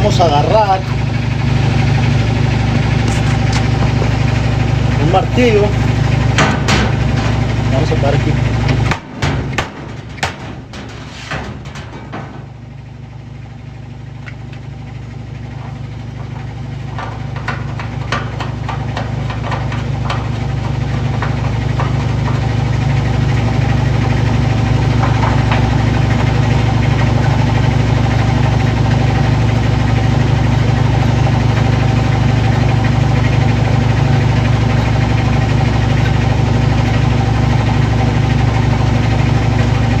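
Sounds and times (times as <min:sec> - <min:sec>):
washing machine humming: 0:00.0 - 0:40.0
clicks and rattles: 0:02.6 - 0:40.0.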